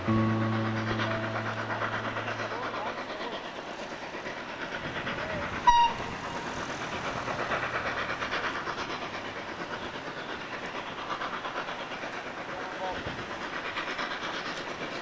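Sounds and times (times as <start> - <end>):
steam train passing: 0.0 - 15.0.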